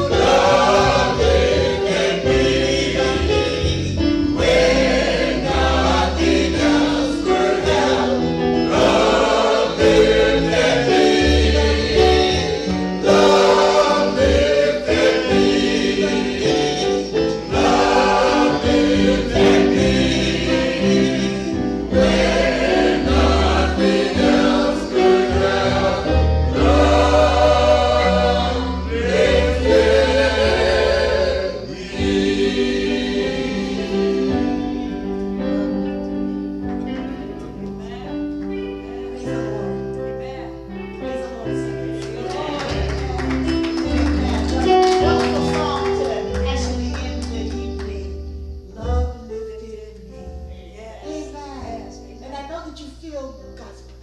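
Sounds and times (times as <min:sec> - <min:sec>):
choir singing gospel: 0:00.0 - 0:52.5.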